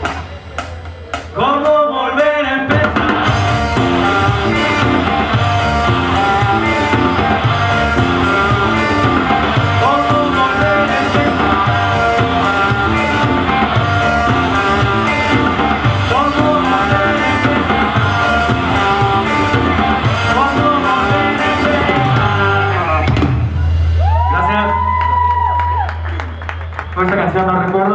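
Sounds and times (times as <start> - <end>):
drum kit: 0.0 - 27.9
electric guitars: 2.5 - 27.9.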